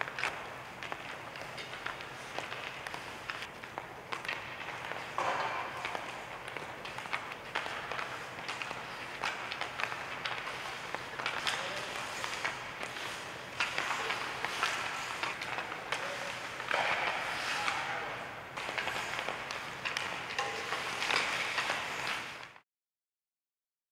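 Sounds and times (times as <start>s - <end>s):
hockey sticks clacking on pucks: 0.0s - 22.6s
skate blades scraping ice: 0.0s - 22.6s.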